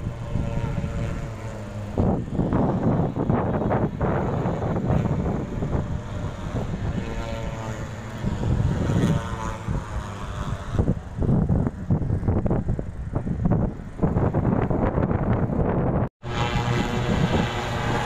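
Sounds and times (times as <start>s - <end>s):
motorcycle engine revving: 0.0s - 18.0s
wind buffeting microphone: 0.0s - 18.0s.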